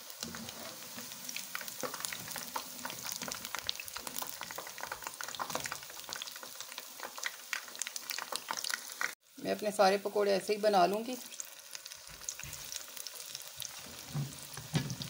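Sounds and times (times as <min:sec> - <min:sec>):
fritters sizzling in hot oil: 0:00.0 - 0:15.0.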